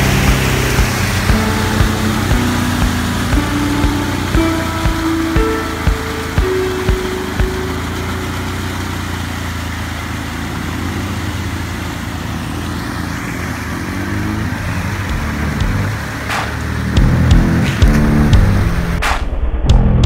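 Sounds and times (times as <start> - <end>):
atv engine running: 0.0 - 19.0
mud and water splashing: 0.0 - 19.0.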